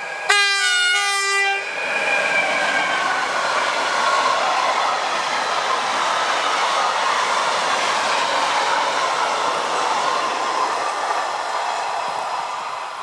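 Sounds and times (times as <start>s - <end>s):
train wheels rushing on rail: 0.0s - 13.0s.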